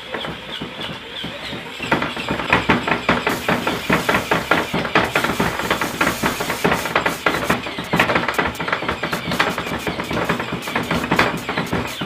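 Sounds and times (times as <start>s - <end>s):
mechanical arm slapping doll: 1.9s - 12.0s.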